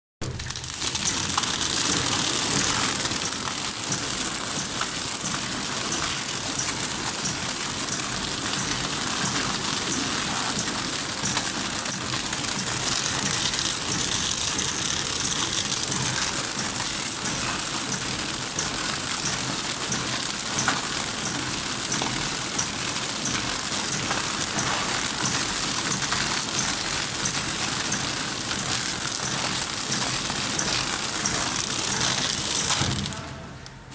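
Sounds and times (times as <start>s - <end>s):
packaging machine clattering: 0.2s - 33.6s.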